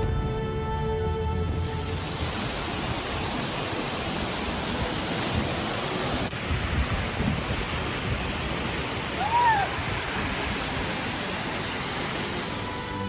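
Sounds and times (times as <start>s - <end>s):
waterfall roaring: 1.6s - 13.0s.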